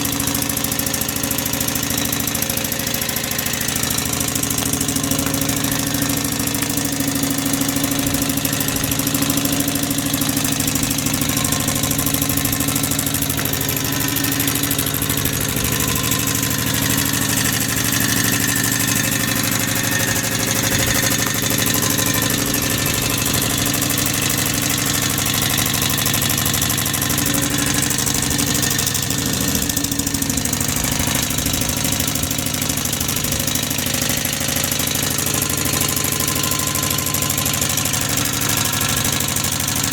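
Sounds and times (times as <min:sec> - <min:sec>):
small steam engine knocking: 0:00.0 - 0:39.9.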